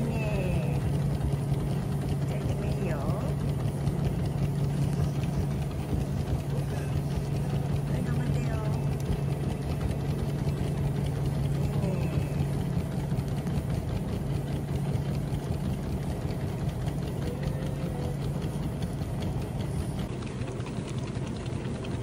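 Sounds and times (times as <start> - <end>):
treadmill motor hum: 0.0 - 22.0.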